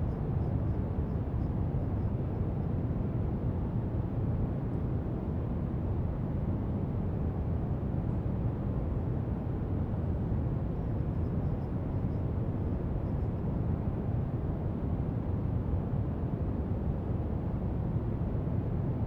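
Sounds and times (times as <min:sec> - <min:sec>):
steady brown noise hiss: 0:00.0 - 0:19.0.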